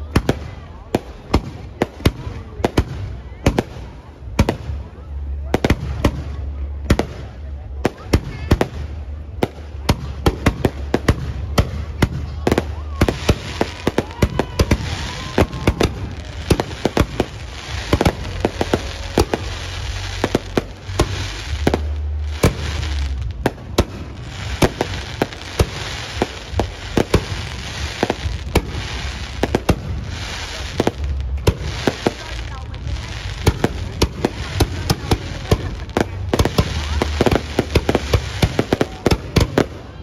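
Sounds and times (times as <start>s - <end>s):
steady low rumble: 0.0s - 39.9s
fireworks bangs: 0.0s - 40.0s
fireworks crackling: 0.0s - 40.0s.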